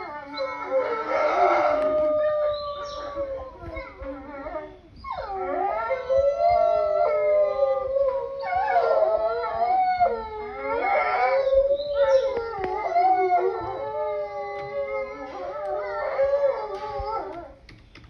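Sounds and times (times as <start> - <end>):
wolves howling: 0.0 - 17.7.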